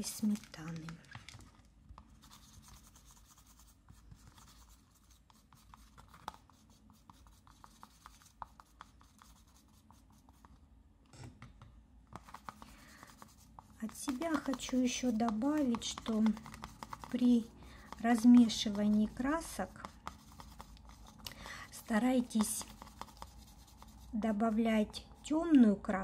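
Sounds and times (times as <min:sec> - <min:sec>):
paintbrush scraping on palette: 0:02.0 - 0:10.5, 0:12.2 - 0:25.3.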